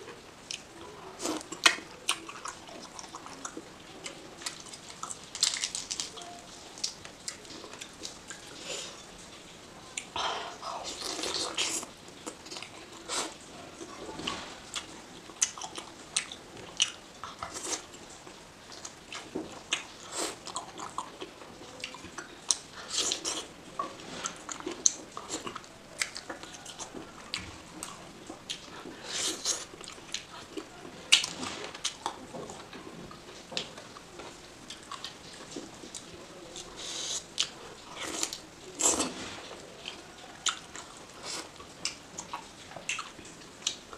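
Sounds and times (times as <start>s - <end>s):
person chewing food: 0.0s - 9.1s, 9.9s - 43.9s.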